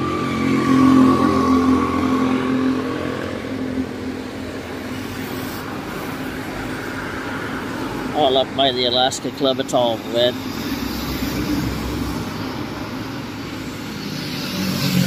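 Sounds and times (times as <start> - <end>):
motorcycle passing: 0.0 - 8.6, 10.2 - 15.0
cars driving past: 0.0 - 15.0.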